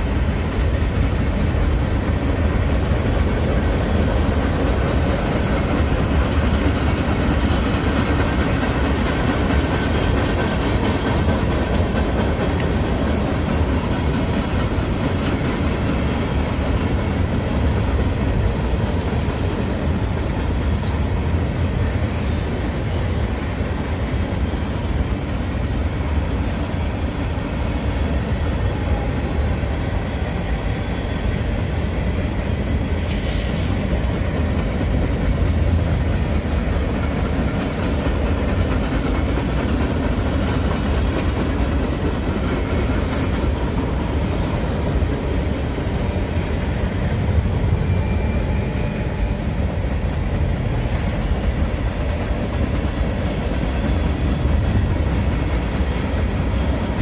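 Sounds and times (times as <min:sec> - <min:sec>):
freight cars rolling on rails: 0:00.0 - 0:57.0.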